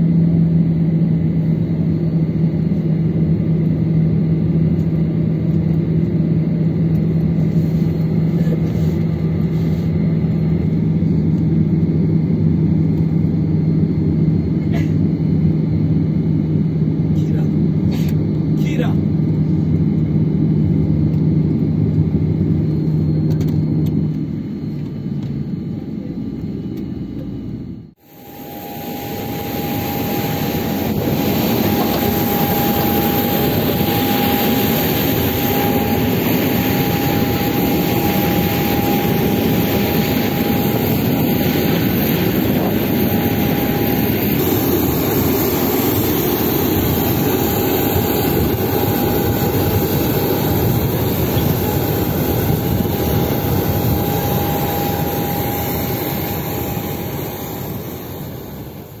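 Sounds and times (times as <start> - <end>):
jet turbine roar: 0.0 - 59.0
thin steady whine: 0.0 - 59.0.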